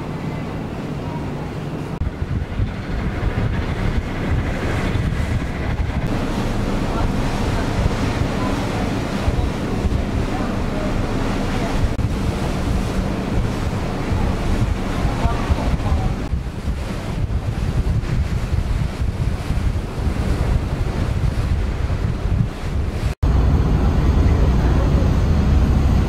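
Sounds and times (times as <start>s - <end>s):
low ship hum: 0.0s - 26.0s
sea water rushing along hull: 0.0s - 26.0s
wind buffeting microphone: 0.0s - 26.0s.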